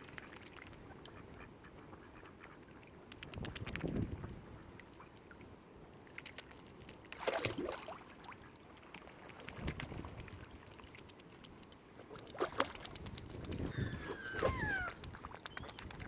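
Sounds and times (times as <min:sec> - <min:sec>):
water lapping and splashing: 0:00.0 - 0:16.0.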